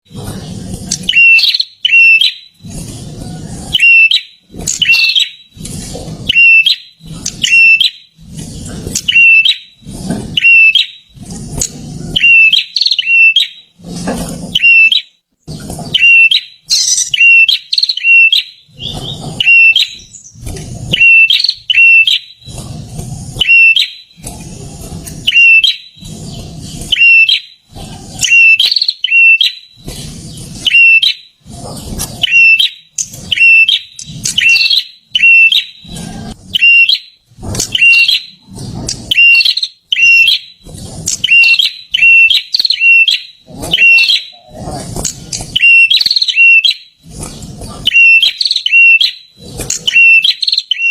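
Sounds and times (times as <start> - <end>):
bird singing high chirps: 0.9 - 2.8, 3.6 - 5.6, 6.3 - 8.2, 9.0 - 11.1, 12.1 - 13.7, 14.5 - 22.6, 23.4 - 24.2, 25.2 - 27.6, 28.2 - 31.3, 32.2 - 38.4, 39.1 - 44.6, 45.2 - 50.9.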